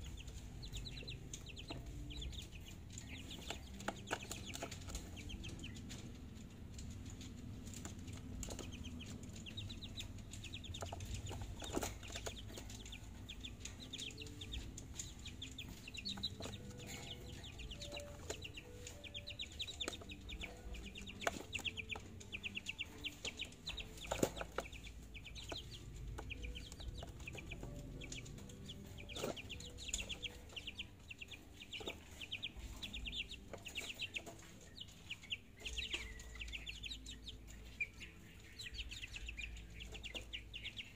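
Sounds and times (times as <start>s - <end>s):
chicks chirping: 0.0s - 40.9s
chicks clucking: 0.0s - 40.9s.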